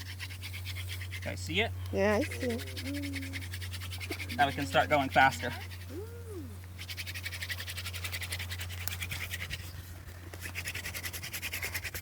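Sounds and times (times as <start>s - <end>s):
hand drill scratching wood: 0.0s - 5.9s, 6.8s - 12.0s.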